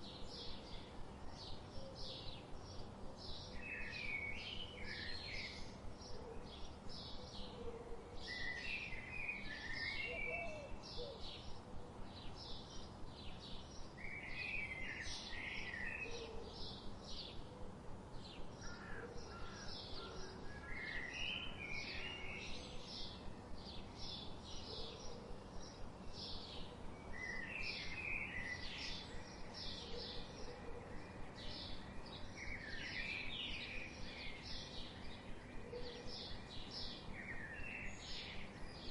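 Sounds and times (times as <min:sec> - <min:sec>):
warbled bird song: 0:00.0 - 0:38.9.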